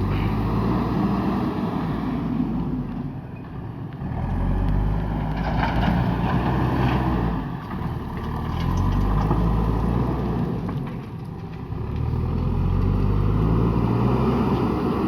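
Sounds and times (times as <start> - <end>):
diesel engine under load: 0.0 - 15.0.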